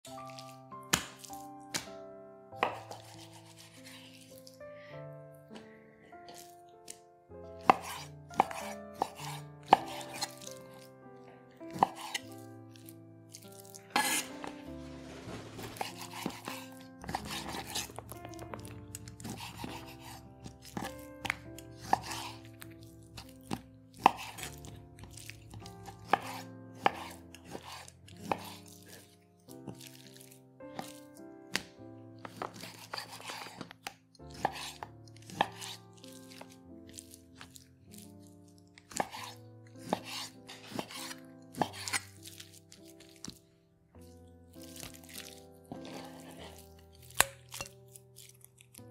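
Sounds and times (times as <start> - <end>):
soft background music: 0.0 - 48.9
knife cutting raw chicken: 0.1 - 2.0, 2.6 - 4.7, 5.5 - 11.0, 11.6 - 43.4, 44.0 - 48.9.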